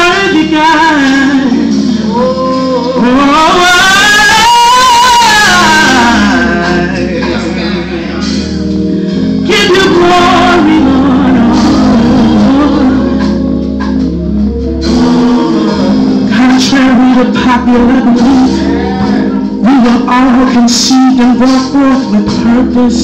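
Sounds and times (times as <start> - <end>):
woman singing gospel song: 0.0 - 7.4, 9.4 - 14.0, 14.8 - 23.0
live band accompaniment: 0.0 - 23.0.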